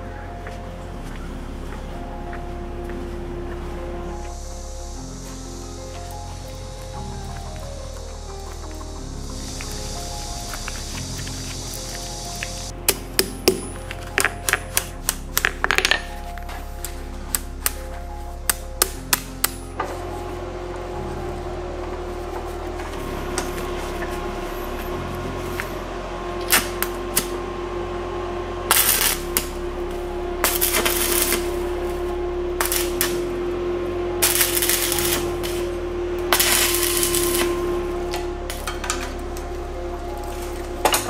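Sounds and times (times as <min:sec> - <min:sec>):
background music: 0:00.0 - 0:41.0
arc welding crackling: 0:04.1 - 0:41.0.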